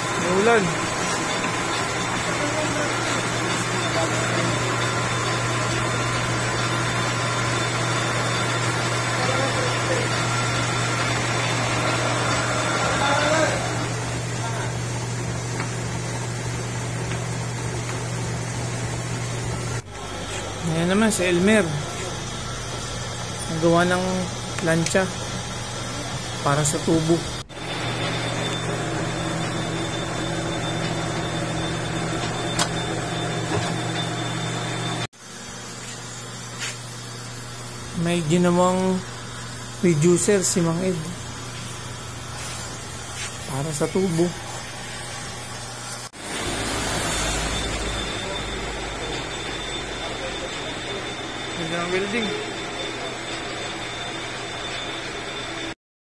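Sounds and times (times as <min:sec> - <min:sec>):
machinery humming: 0:00.0 - 0:55.8.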